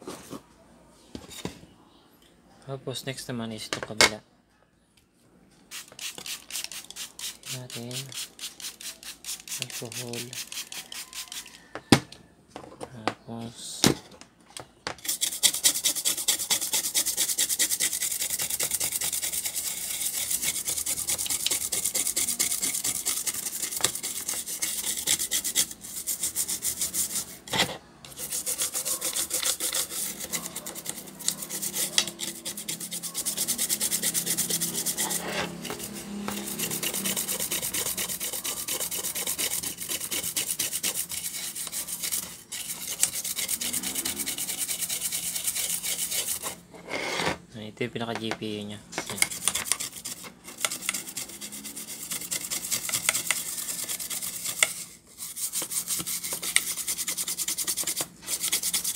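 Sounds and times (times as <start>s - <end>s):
brush scrubbing circuit board: 5.7s - 11.7s, 15.0s - 46.6s, 49.1s - 58.9s.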